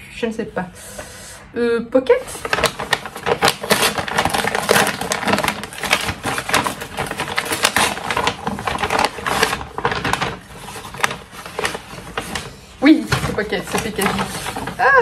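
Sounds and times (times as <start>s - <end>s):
packaging crackling and tearing: 2.2s - 15.0s.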